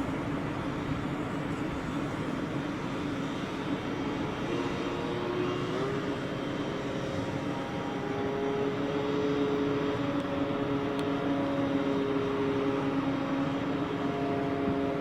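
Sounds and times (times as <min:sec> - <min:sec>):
model plane motor droning whine: 0:00.0 - 0:15.0.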